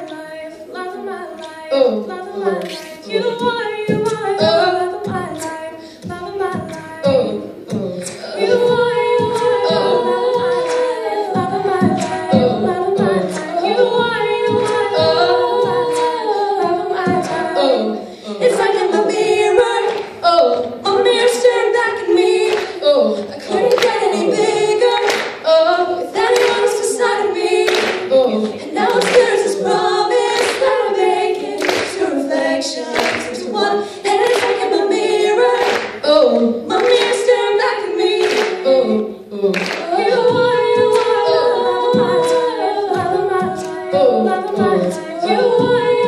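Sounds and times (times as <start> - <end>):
group singing a cappella: 0.0 - 46.0.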